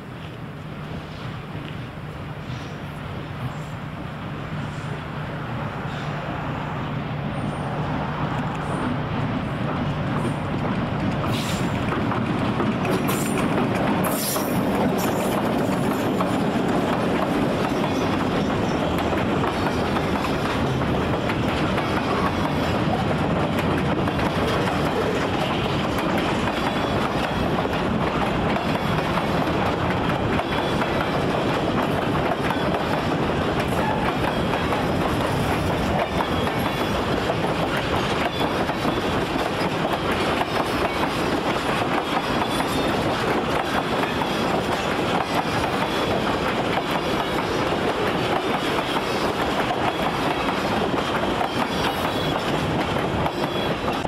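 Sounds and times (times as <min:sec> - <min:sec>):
train rolling on rails: 0:00.0 - 0:54.0.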